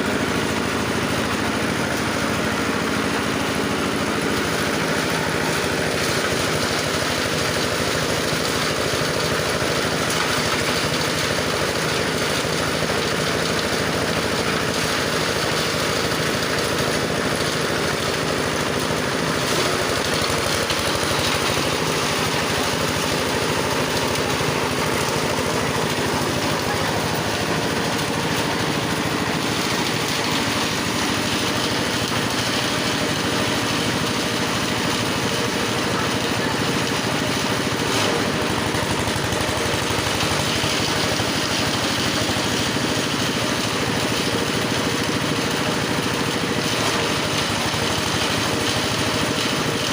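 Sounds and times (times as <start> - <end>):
grass chopper engine drone: 0.0 - 49.9.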